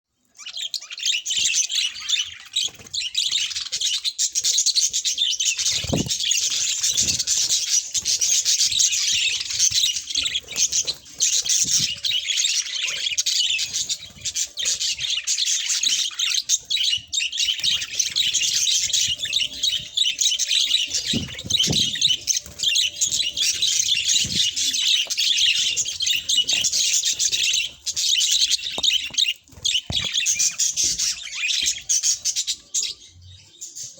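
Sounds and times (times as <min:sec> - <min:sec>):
budgerigars chirping and chattering: 0:00.3 - 0:33.9.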